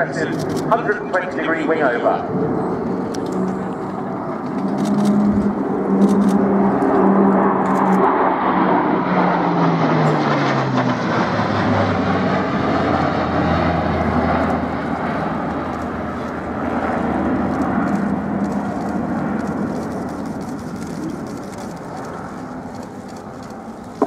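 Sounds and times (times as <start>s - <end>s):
aircraft propeller drone: 0.0s - 24.0s.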